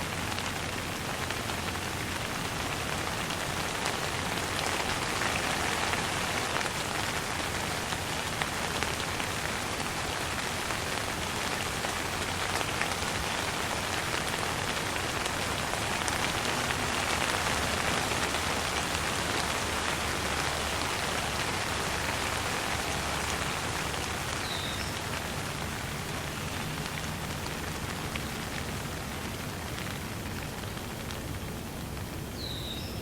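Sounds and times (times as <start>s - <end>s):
raindrops ticking: 0.0s - 32.4s
steady light rain: 0.0s - 33.0s.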